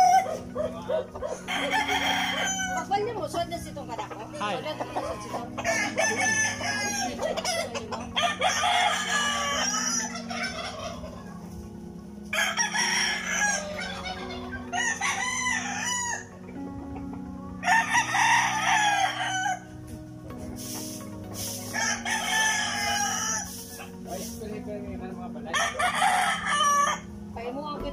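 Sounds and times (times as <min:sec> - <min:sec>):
roosters crowing: 0:00.0 - 0:20.0, 0:20.7 - 0:24.4, 0:25.5 - 0:27.2.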